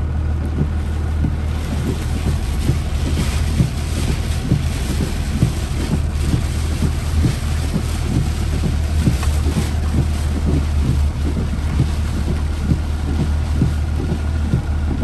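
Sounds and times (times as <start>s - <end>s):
deep rumble: 0.0s - 15.0s
heavy rain beating on a car: 0.0s - 15.0s
low thuds: 0.0s - 15.0s
hurricane wind: 0.6s - 15.0s.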